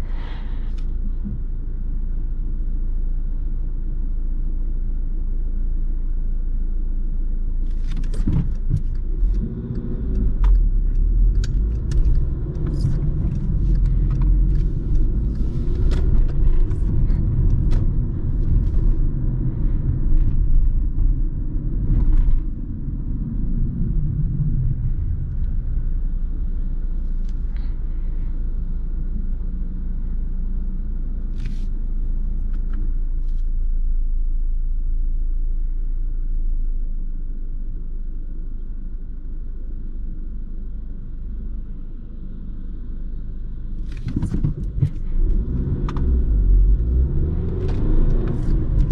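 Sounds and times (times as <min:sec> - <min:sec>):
low factory rumble and hum: 0:00.0 - 0:48.9.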